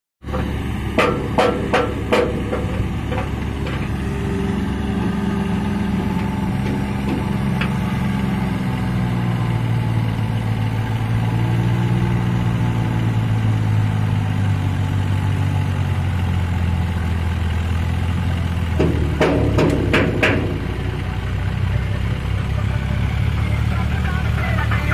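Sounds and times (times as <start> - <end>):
tractor diesel engine labouring: 0.2 - 24.9.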